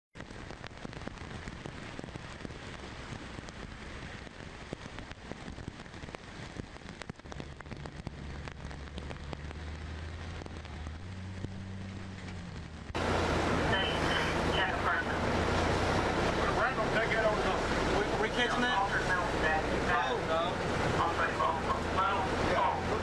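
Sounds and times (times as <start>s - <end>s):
rain on a hard surface: 0.1s - 23.0s
low steady hum: 0.2s - 23.0s.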